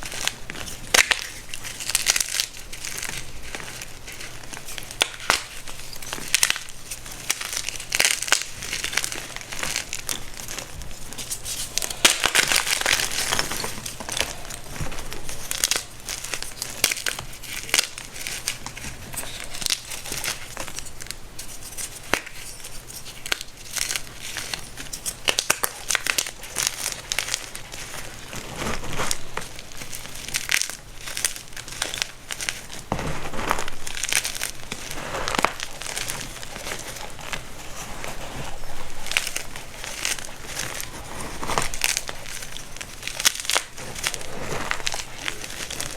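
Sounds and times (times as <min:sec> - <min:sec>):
powder crumbling and crunching: 0:00.0 - 0:45.9.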